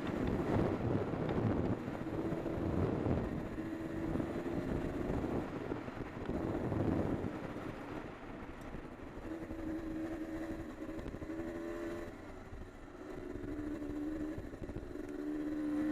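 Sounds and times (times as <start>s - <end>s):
two-stroke motorcycle engine revving: 0.0s - 15.9s
wind buffeting microphone: 0.0s - 15.9s.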